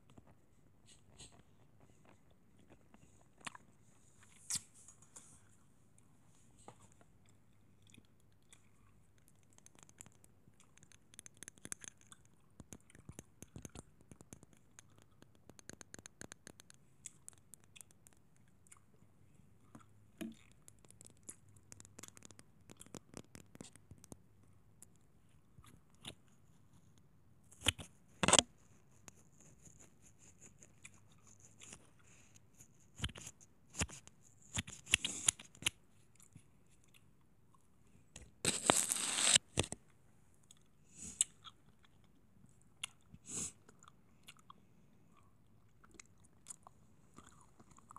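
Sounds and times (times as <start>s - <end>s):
scratching and crinkling objects: 0.0s - 37.1s, 37.9s - 43.8s.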